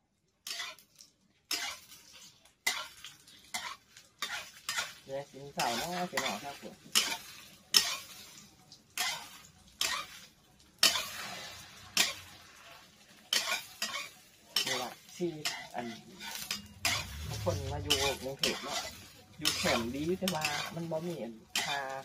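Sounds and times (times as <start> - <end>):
food sizzling in oil: 0.2 - 22.0
metal spatula scraping frying pan: 0.4 - 22.0.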